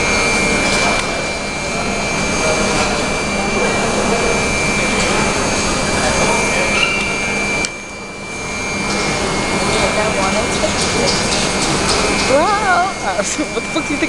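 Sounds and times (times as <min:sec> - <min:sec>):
faint voices: 0:00.0 - 0:14.0
high whine: 0:00.0 - 0:14.0
stopped metro train running noise: 0:00.0 - 0:14.0.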